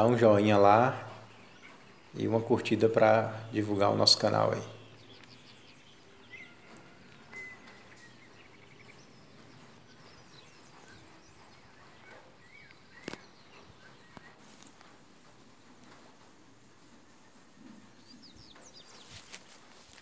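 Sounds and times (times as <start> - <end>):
bird chirps: 0.0 - 14.8, 17.1 - 20.0.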